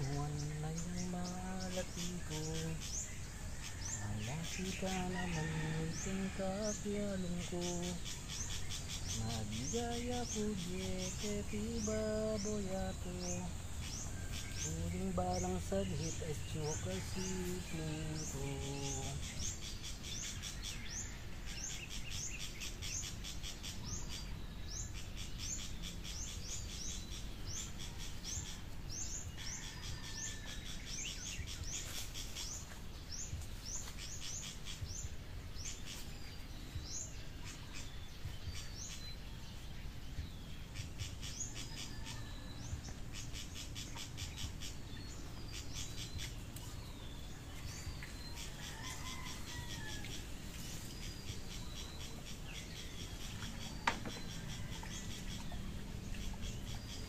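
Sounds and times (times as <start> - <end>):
birds chirping: 0.0 - 57.0
low background rumble: 0.0 - 57.0.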